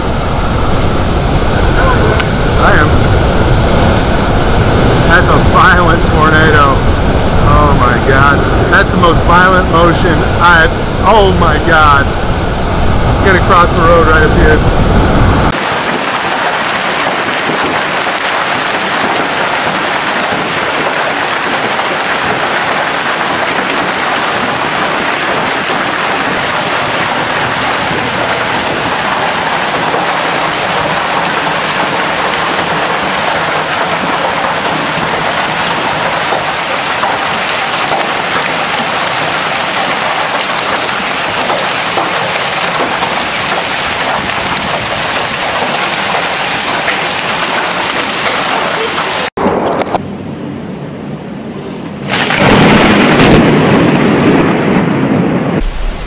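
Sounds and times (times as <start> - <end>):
heavy rain pelting: 0.0 - 50.0, 55.6 - 56.0.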